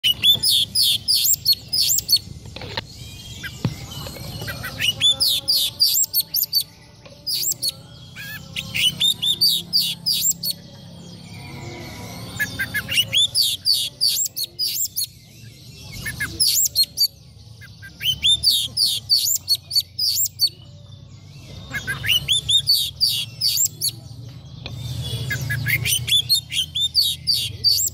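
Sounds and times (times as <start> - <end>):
bird singing whistled notes: 0.0 - 27.9.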